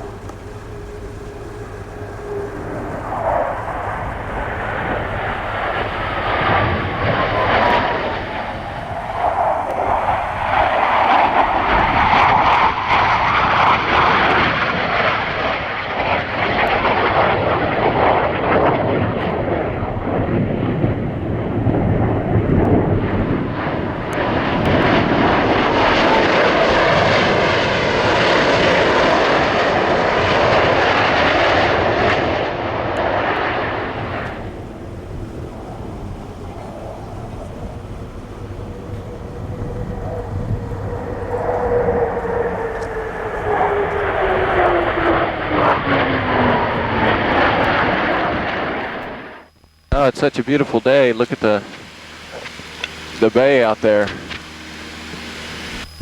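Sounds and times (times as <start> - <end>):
aircraft engine noise: 0.0 - 56.0
faint falling whine: 0.0 - 56.0.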